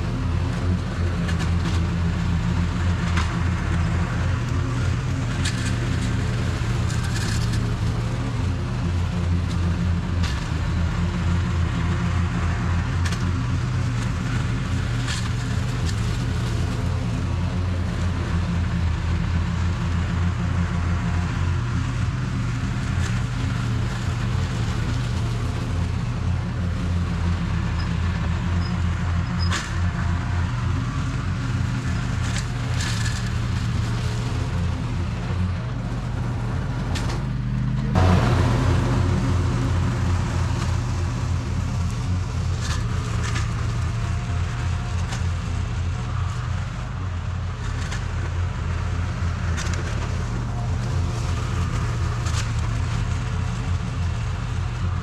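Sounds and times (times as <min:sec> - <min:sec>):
lawn mower cutting grass: 0:00.0 - 0:55.0.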